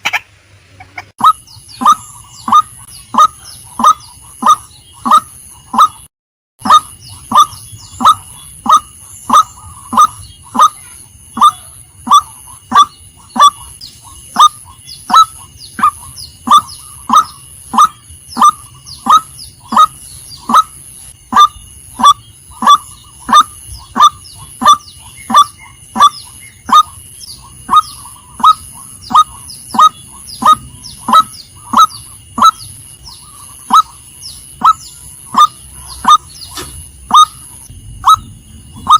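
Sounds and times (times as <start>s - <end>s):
waterhen calling: 0.0s - 38.9s.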